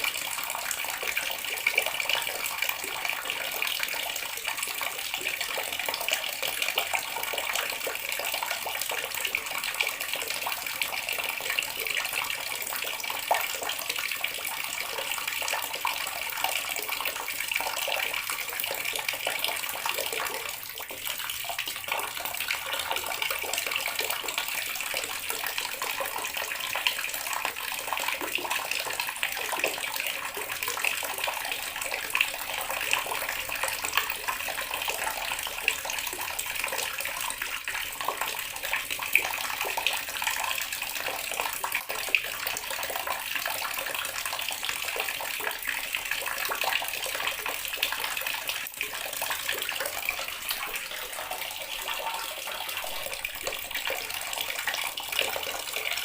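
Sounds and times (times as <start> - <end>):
tap water running and splashing: 0.0 - 56.0.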